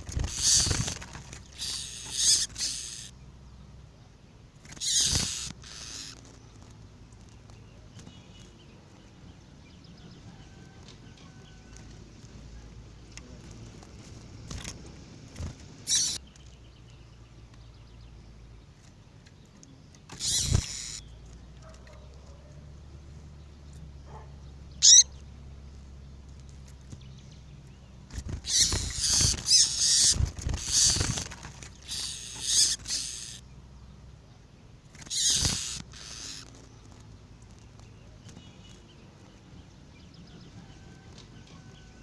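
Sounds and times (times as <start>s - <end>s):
birds chirping: 0.0s - 42.0s
rapid twittering birdsong: 0.0s - 42.0s.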